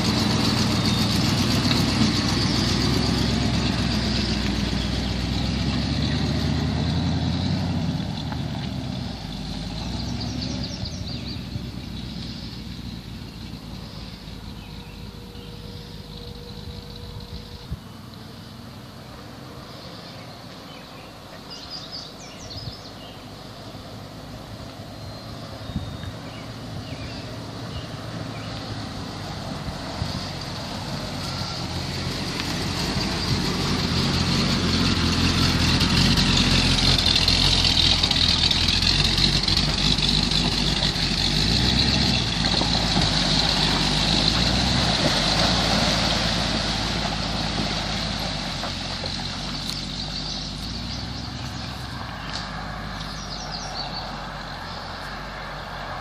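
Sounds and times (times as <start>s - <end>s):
car engine driving past: 0.0s - 56.0s.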